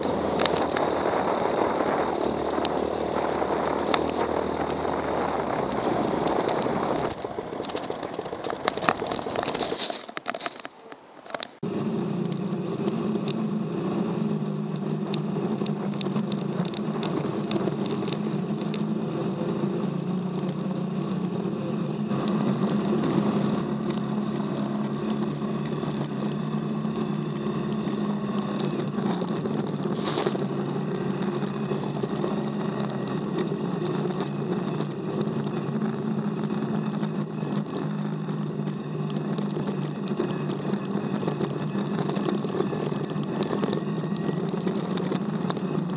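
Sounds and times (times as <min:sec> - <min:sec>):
buggy engines running: 0:00.0 - 0:45.9.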